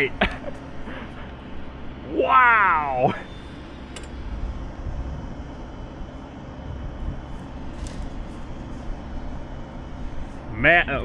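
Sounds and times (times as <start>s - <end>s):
motor running with low rumble: 0.0s - 11.0s.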